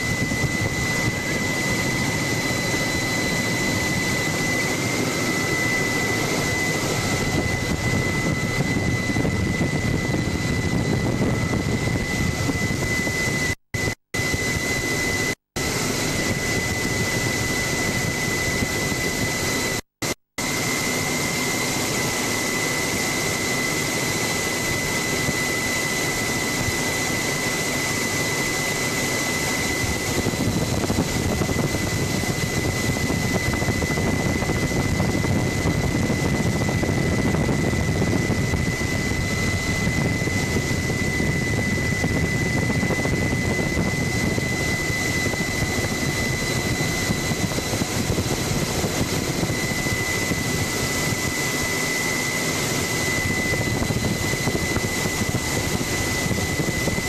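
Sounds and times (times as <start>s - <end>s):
helicopter engine and rotor noise: 0.0s - 57.0s
high-pitched turbine whine: 0.0s - 57.0s.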